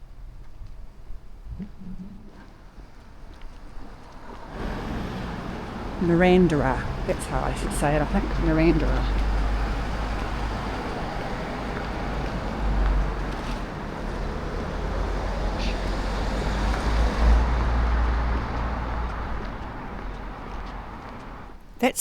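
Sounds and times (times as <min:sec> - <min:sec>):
cars passing: 0:02.3 - 0:21.6.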